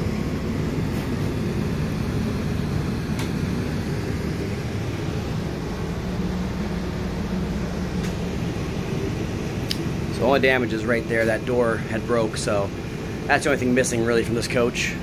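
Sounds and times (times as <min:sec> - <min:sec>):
air conditioning hum: 0:00.0 - 0:15.0.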